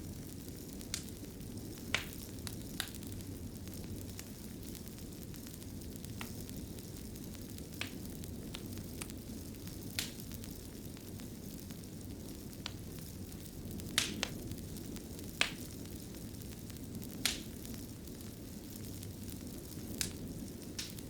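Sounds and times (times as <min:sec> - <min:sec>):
sharp pops of fire: 0:00.0 - 0:21.0
wood fire crackling: 0:00.0 - 0:21.0.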